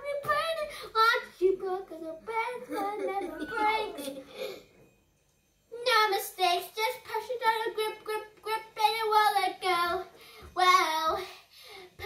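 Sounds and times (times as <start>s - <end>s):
child singing: 0.0s - 4.4s, 5.7s - 12.0s.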